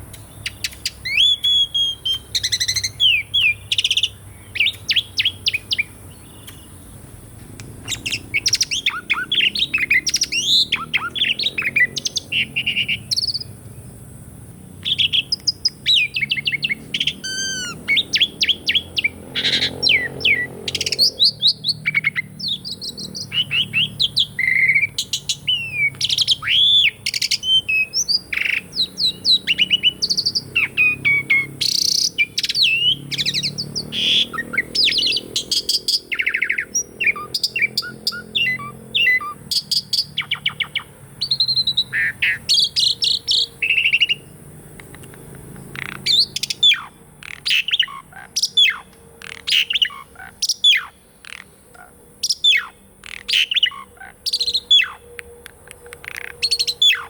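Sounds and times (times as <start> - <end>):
starling singing: 0.0 - 13.6, 14.5 - 57.0.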